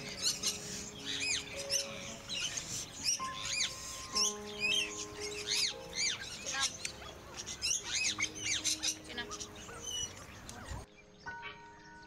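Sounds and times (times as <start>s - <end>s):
background music with held notes: 0.0s - 12.0s
small birds chirping: 0.0s - 12.0s.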